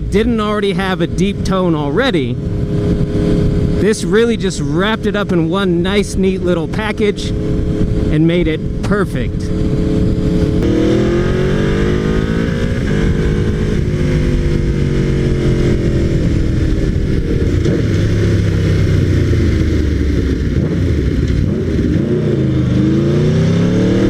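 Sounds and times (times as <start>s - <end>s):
motorcycle engine revving: 0.0s - 24.0s
wind noise: 0.0s - 24.0s.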